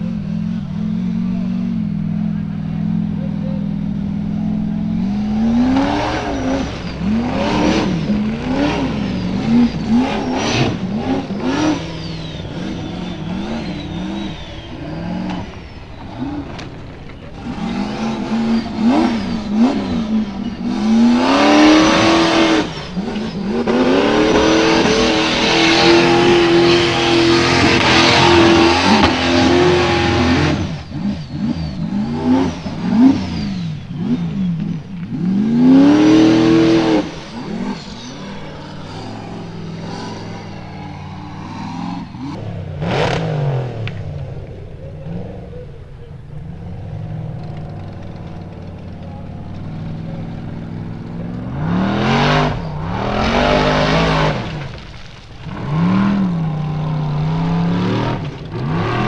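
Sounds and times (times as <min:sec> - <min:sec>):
buggy engine revving hard: 0:00.0 - 0:59.0.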